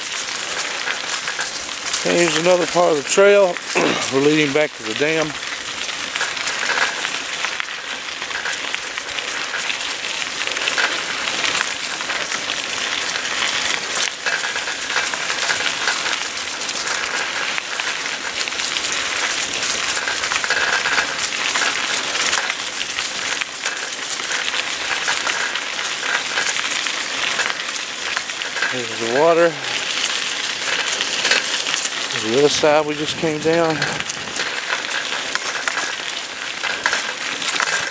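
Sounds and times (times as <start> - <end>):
bicycle tyres crunching gravel and leaves: 0.0 - 37.9.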